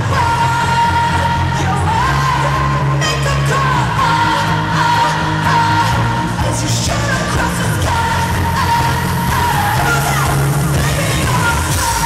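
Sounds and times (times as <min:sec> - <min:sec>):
band with bass and drums: 0:00.0 - 0:12.0
woman singing pop live: 0:00.0 - 0:12.0.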